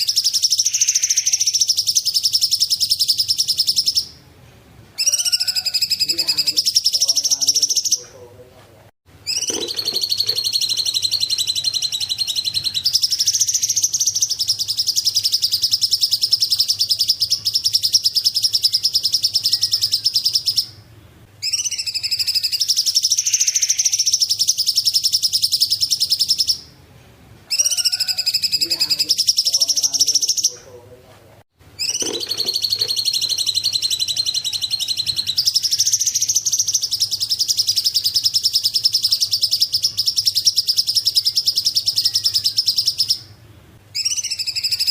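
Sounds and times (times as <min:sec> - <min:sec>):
songbird high-pitched trills: 0:00.0 - 0:04.2, 0:05.0 - 0:08.1, 0:09.3 - 0:20.8, 0:21.4 - 0:26.7, 0:27.5 - 0:30.6, 0:31.8 - 0:43.4, 0:44.0 - 0:44.9.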